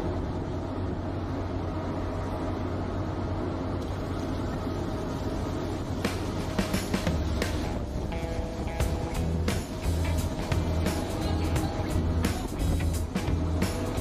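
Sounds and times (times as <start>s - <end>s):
boat engine and machinery drone: 0.0s - 14.0s.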